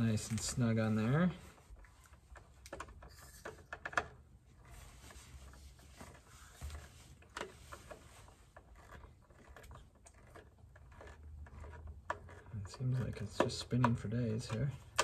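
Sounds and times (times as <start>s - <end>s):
screwdriver scraping: 1.6s - 15.0s.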